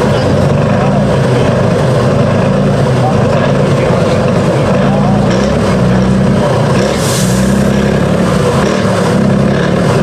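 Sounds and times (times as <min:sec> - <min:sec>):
truck diesel engine under load: 0:00.0 - 0:10.0.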